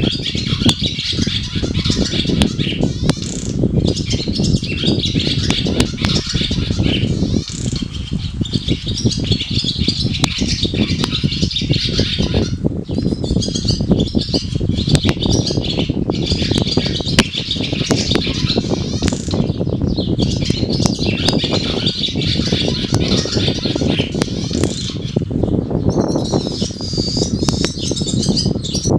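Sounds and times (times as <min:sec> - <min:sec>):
swallows twittering: 0:00.0 - 0:28.9.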